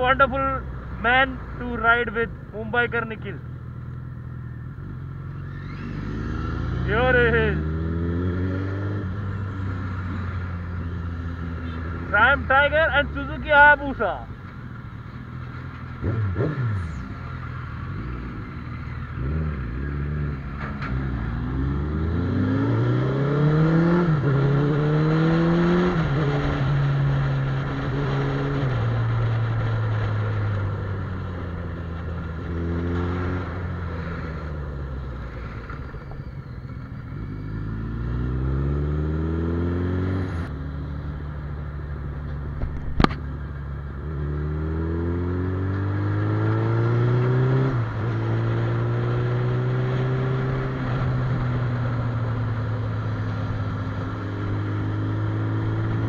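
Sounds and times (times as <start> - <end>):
motorcycle engine accelerating: 3.4 - 12.6, 14.6 - 56.0.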